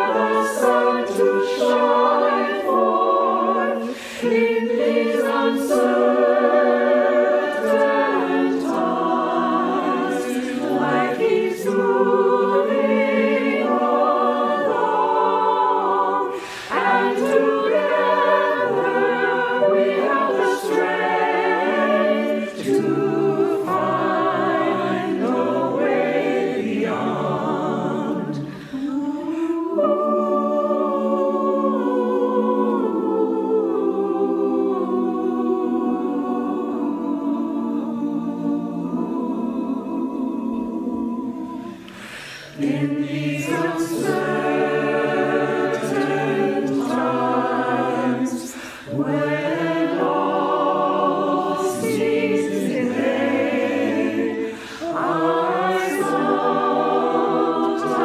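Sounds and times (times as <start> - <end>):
mixed choir singing chords: 0.0 - 58.0.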